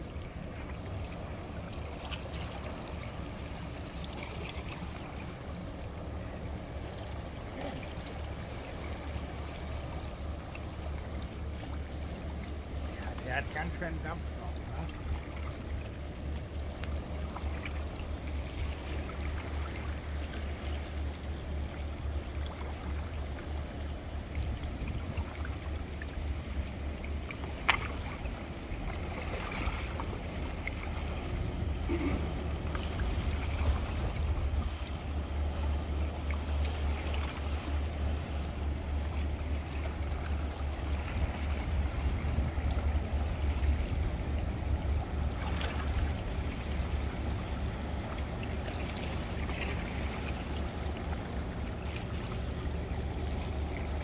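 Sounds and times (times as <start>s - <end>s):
ship diesel engine droning: 0.0s - 54.0s.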